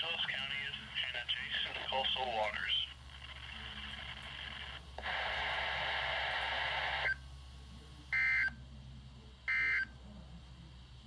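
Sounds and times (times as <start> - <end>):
steady radio hiss: 0.0 - 11.0.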